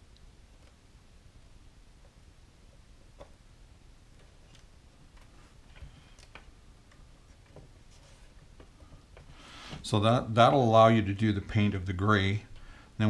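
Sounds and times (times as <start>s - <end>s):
room hiss: 0.0s - 13.0s.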